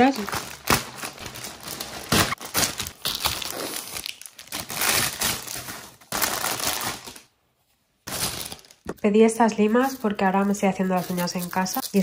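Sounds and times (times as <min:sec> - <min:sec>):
plastic bags crinkling: 0:00.0 - 0:07.3, 0:08.0 - 0:09.0, 0:09.7 - 0:12.0.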